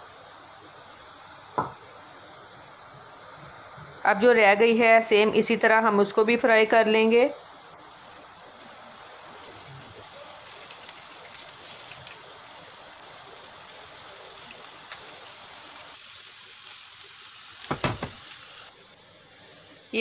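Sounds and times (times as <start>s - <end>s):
okra sizzling in hot oil: 0.0s - 20.0s.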